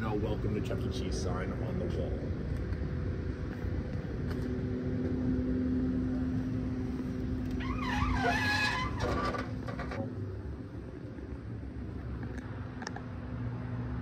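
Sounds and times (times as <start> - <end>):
droning hum: 0.0 - 14.0
road traffic rumble: 0.0 - 14.0.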